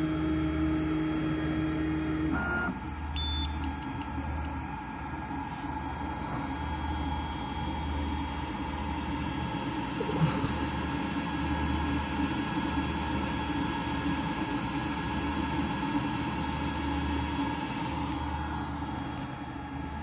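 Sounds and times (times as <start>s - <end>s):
printer fans whirring: 0.0s - 20.0s.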